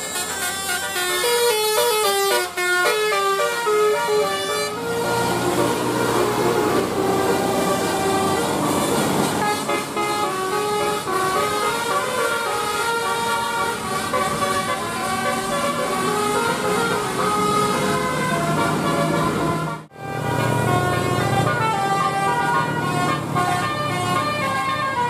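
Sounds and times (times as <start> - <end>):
engine and road noise: 0.0 - 25.0
multi-tone bus horn melody: 0.0 - 25.0.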